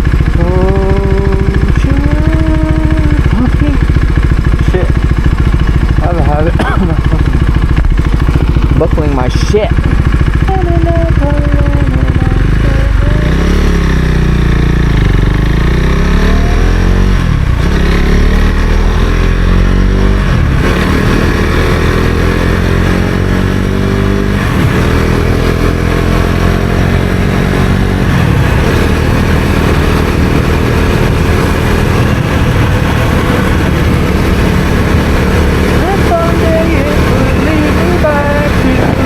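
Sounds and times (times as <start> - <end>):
motorcycle engine shifting gears: 0.0 - 39.0.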